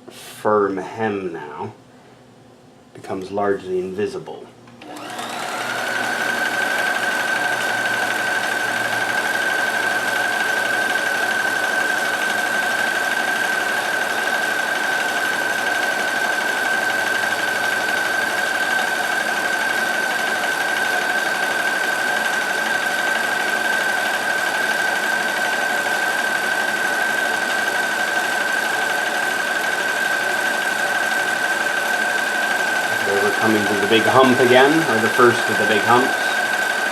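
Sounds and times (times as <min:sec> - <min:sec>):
sewing machine running: 0:04.8 - 0:36.9.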